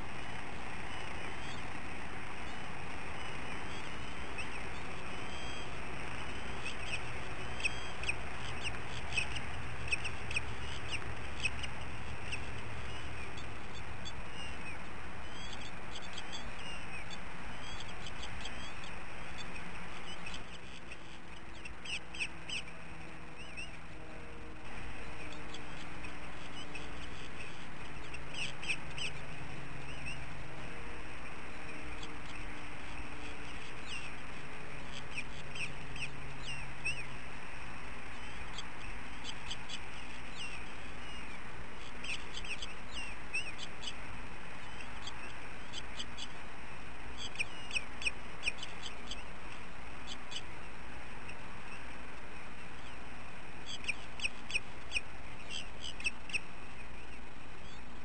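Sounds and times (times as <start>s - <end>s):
background hiss: 0.0s - 58.0s
faint low hum: 0.0s - 58.0s.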